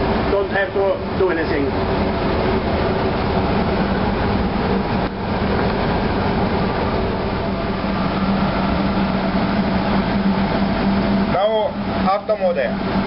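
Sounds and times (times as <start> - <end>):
marine diesel engine running: 0.0 - 13.0.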